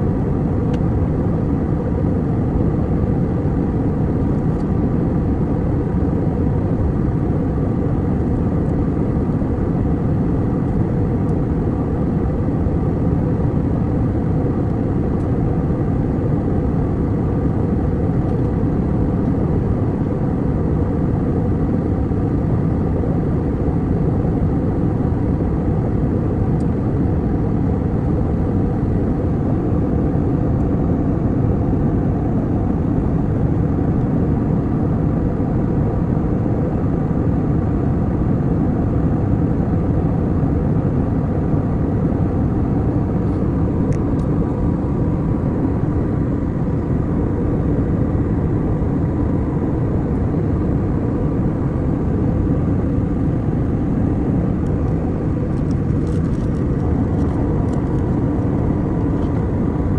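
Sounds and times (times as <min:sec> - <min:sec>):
airliner cabin engine drone: 0:00.0 - 0:59.9.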